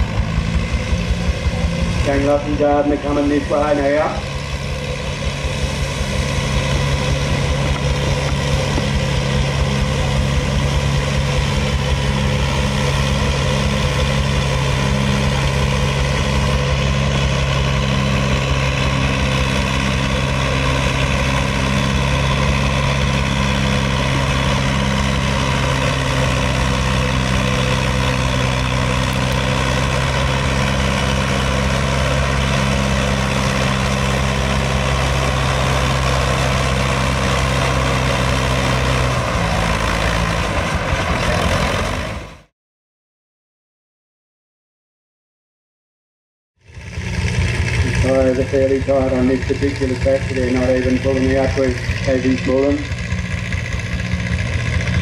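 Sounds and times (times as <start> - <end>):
tractor engine running under load: 0.0 - 42.5, 46.6 - 55.0.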